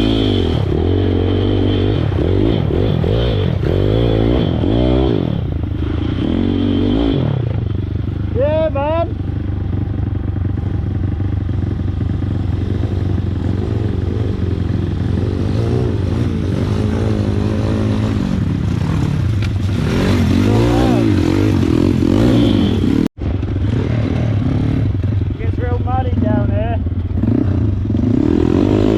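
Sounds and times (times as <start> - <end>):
pit bike engine revving: 0.0 - 28.9.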